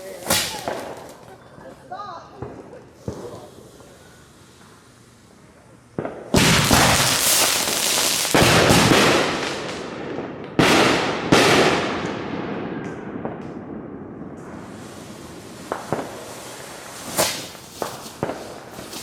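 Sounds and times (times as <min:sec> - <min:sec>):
loud firework bangs: 0:00.0 - 0:01.4, 0:02.3 - 0:04.9, 0:05.9 - 0:19.0.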